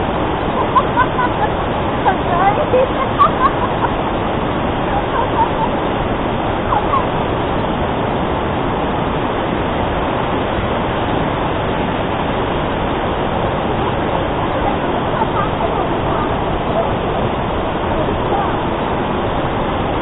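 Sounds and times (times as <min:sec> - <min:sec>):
large waterfall rushing: 0:00.0 - 0:20.0.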